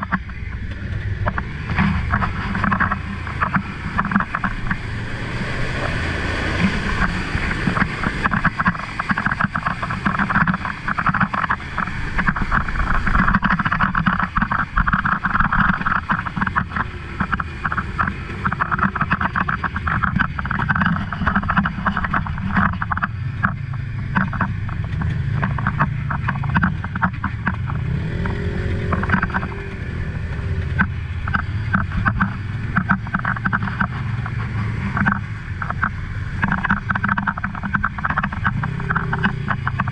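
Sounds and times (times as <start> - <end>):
tyres splashing through water: 0.0 - 39.9
vehicle engine droning: 0.0 - 39.9.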